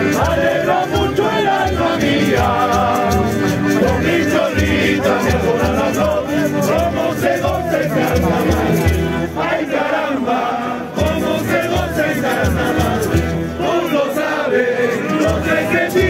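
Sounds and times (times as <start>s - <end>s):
crowd voices: 0.0s - 16.0s
street band playing: 0.0s - 16.0s.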